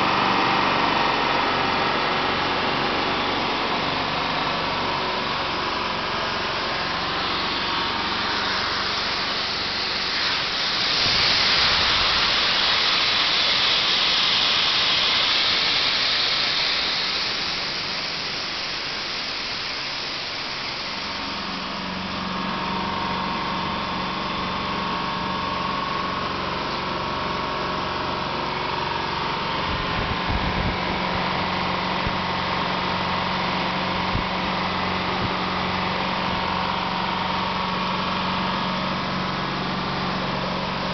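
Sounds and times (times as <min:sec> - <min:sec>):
compressor running: 0:00.0 - 0:40.9
hiss: 0:00.0 - 0:40.9
steady low hum: 0:00.8 - 0:40.9.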